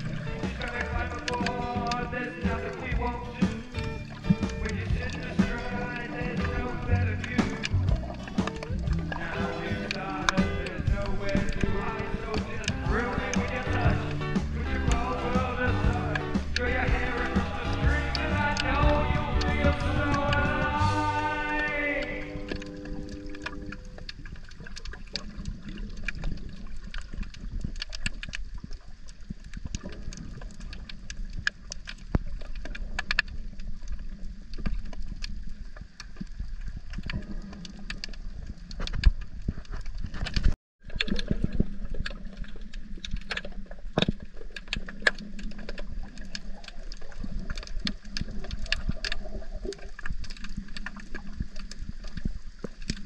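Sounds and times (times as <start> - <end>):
muffled underwater rumbling wash: 0.0 - 53.0
sharp crackling clicks: 0.0 - 53.0.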